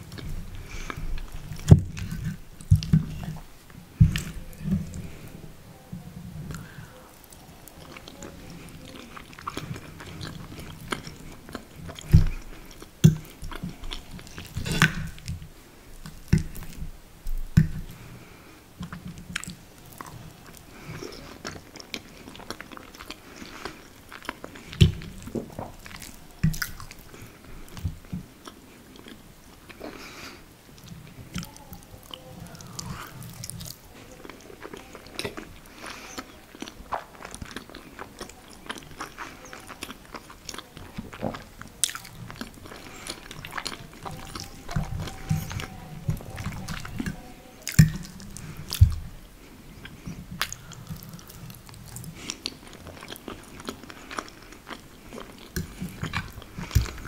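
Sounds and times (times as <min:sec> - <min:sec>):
chewing and wet mouth sounds: 0:00.0 - 0:05.4, 0:06.1 - 0:57.0.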